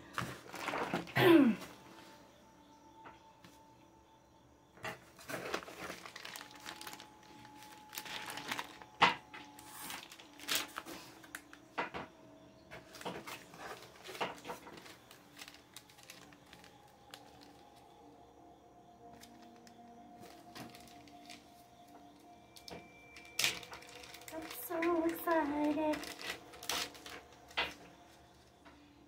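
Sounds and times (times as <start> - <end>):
plastic packaging crinkling: 0.1 - 1.5, 5.0 - 12.0, 12.7 - 18.0, 19.0 - 28.7.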